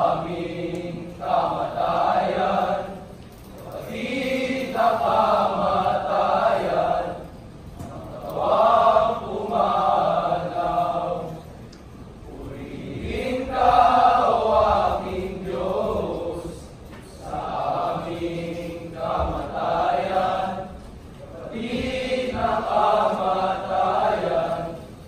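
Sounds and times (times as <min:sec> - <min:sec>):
male voices chanting in unison: 0:00.0 - 0:11.5, 0:12.3 - 0:25.0.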